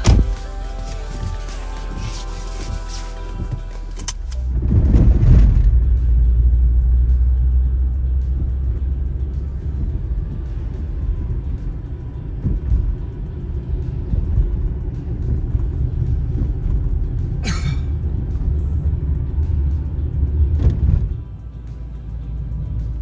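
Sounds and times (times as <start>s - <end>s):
background music: 0.0s - 23.0s
car road rumble: 0.0s - 23.0s.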